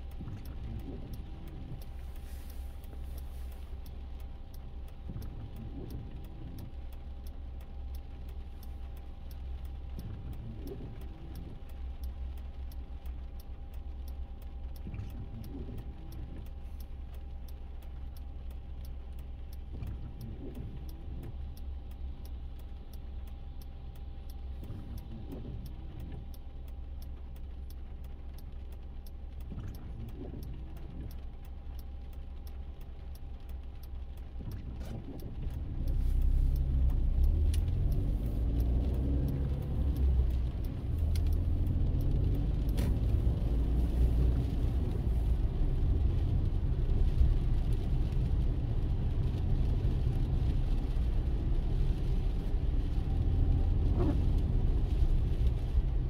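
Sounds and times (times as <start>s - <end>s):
rapid even ticking: 0.0s - 49.4s
car engine rumble inside cabin: 0.0s - 56.0s.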